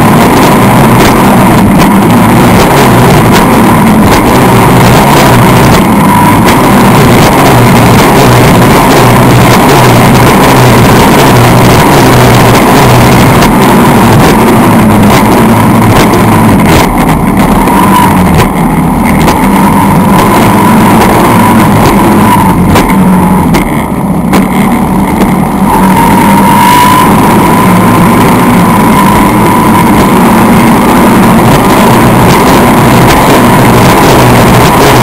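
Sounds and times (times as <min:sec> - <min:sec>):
boat engine running hard: 0:00.0 - 0:35.0
wind noise on microphone: 0:00.0 - 0:35.0.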